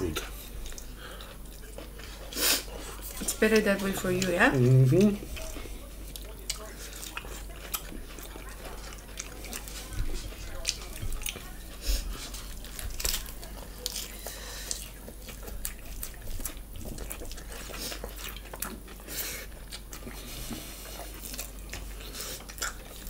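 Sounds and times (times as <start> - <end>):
wet chewing and lip smacks: 3.1 - 11.5, 12.1 - 23.0.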